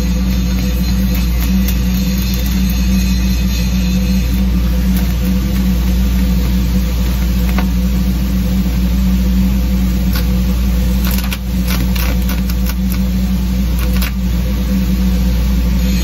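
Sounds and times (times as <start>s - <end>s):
welding arc crackling and popping: 0.0s - 15.0s
low machine hum: 0.0s - 16.0s.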